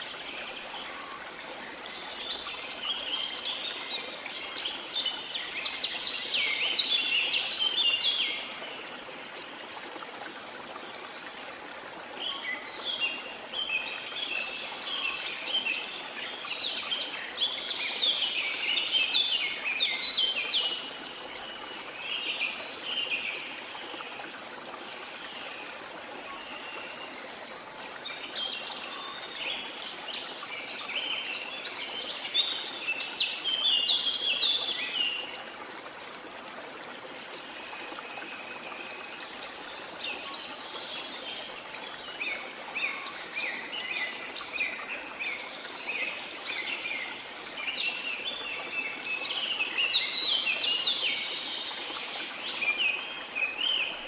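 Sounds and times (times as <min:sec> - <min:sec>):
waterfall running water: 0:00.0 - 0:54.0.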